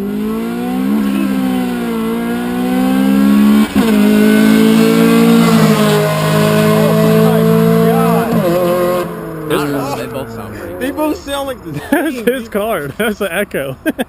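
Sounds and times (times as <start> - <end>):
car engine accelerating hard: 0.0 - 13.1.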